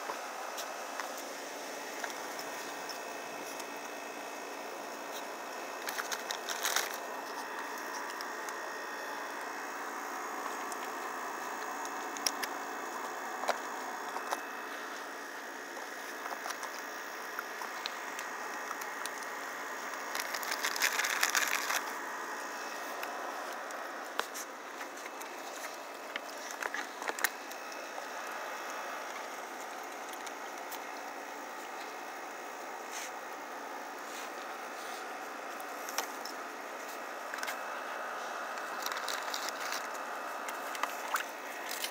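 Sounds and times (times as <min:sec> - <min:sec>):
crackling rustles: 0:05.0 - 0:09.1, 0:10.3 - 0:33.2, 0:34.0 - 0:41.9.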